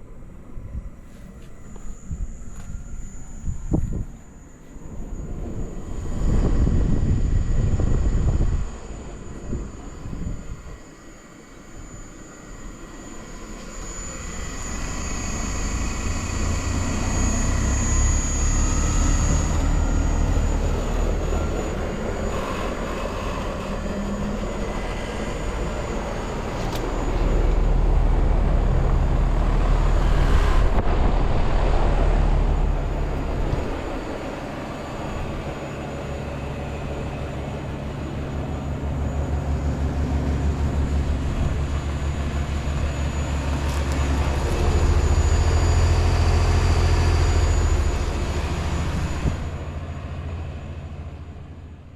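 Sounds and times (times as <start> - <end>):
thin high whine: 0.0 - 51.9.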